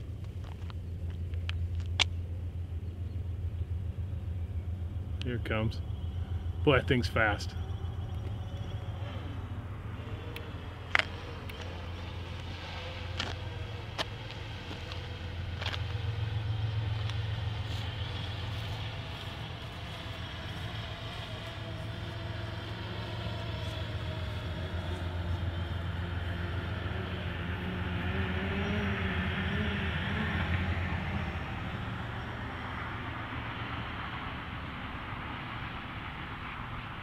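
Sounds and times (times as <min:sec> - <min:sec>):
drone propellers buzzing: 0:00.0 - 0:37.0
steady low rumble: 0:00.0 - 0:37.0.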